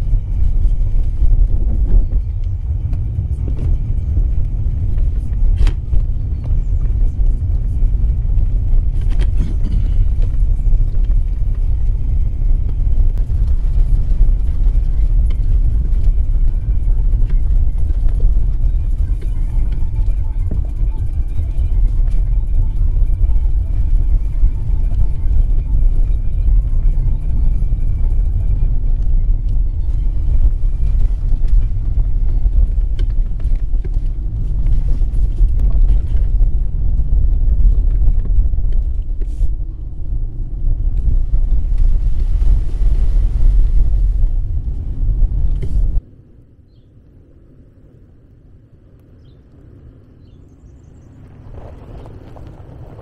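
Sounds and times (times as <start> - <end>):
vehicle rumbling on rough track: 0.0 - 53.0.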